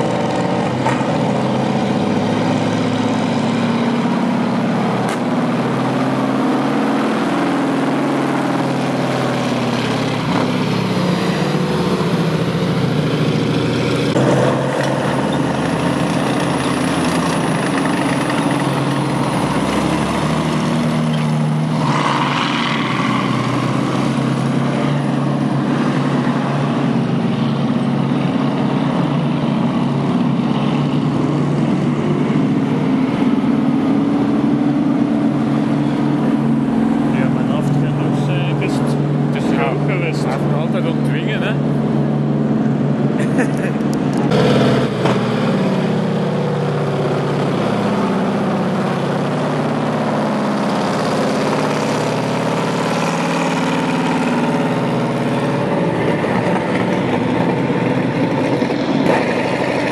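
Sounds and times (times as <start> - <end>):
tank engines running: 0.0 - 59.9
tank tracks rolling on road: 0.0 - 59.9.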